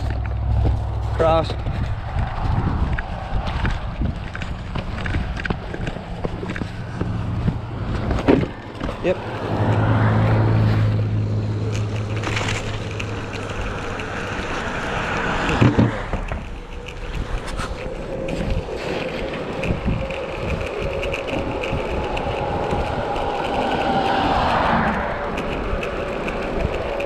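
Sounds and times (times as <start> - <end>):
tyres rolling over pavement: 0.0 - 27.0.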